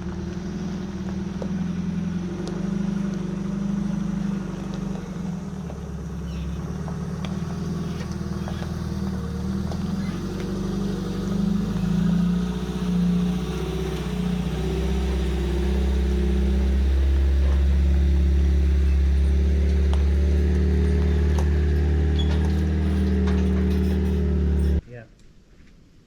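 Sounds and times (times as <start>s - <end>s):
engine running: 0.0s - 24.8s.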